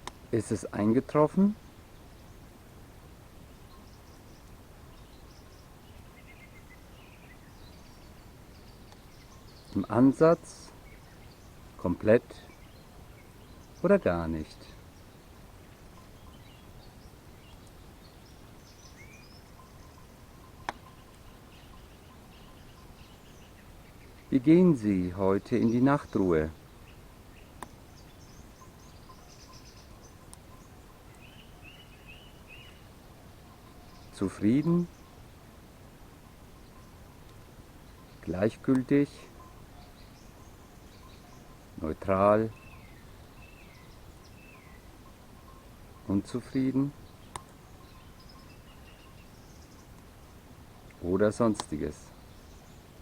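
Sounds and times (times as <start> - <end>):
steady low background noise: 0.0 - 53.0
faint bird chirps: 3.4 - 35.6, 36.2 - 50.1, 50.8 - 53.0.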